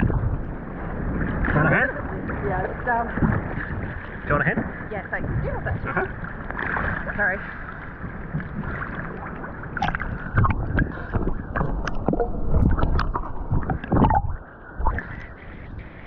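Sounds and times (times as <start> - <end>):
steady wash of water: 0.0 - 16.0
water splashing and sloshing: 0.0 - 16.0.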